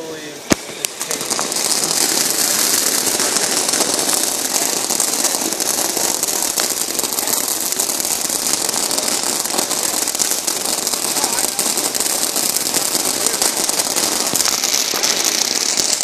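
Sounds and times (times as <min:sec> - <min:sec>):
firework crackling hiss: 0:00.0 - 0:16.0.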